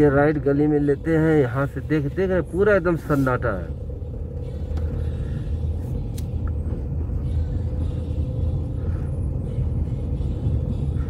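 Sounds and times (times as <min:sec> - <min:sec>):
car engine and tyre rumble: 0:00.0 - 0:11.0
constant hum: 0:00.0 - 0:11.0.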